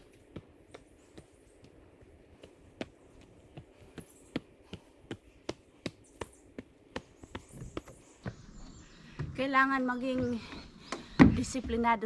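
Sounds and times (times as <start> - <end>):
footsteps walking: 0.0 - 12.0.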